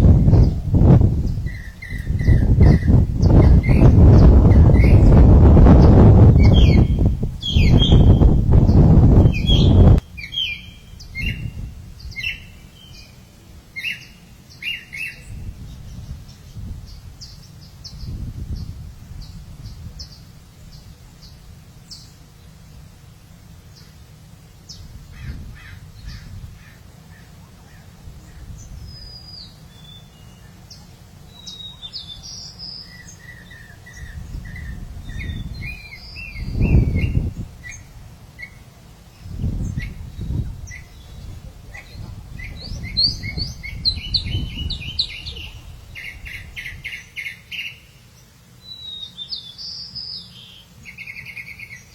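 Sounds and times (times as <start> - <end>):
birds chirping: 0.0 - 22.9, 23.6 - 51.9.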